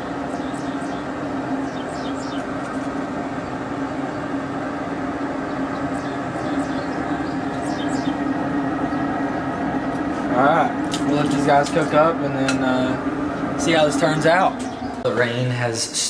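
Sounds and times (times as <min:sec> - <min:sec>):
smoker fan humming: 0:00.0 - 0:16.0.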